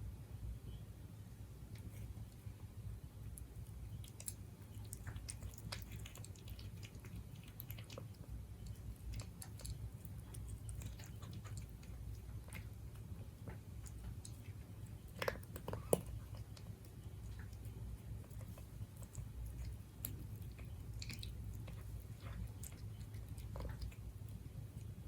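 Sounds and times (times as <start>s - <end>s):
cat chewing food: 1.8s - 25.0s.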